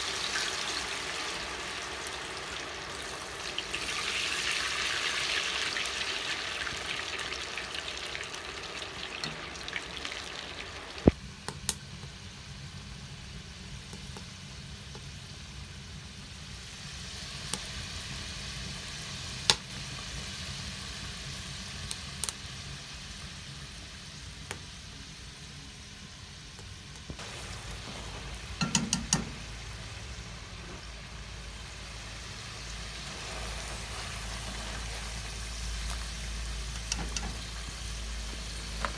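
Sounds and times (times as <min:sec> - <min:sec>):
chips sizzling in hot oil: 0:00.0 - 0:38.9.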